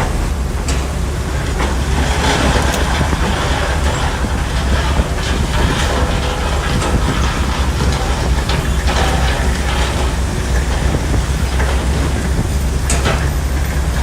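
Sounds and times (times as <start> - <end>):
bulldozer diesel engine droning: 0.0 - 14.0
steel tracks clanking: 0.0 - 14.0.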